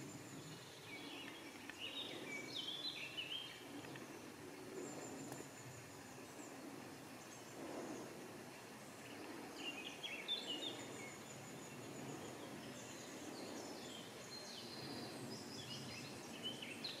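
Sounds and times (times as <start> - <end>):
low background noise: 0.0 - 17.0
songbirds chirping: 0.0 - 17.0.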